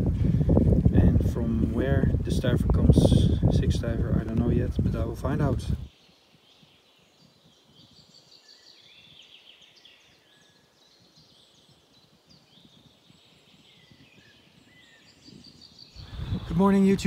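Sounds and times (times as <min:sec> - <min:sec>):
birdsong chirps and warbles: 0:00.0 - 0:17.0
light wind rumble: 0:00.0 - 0:17.0.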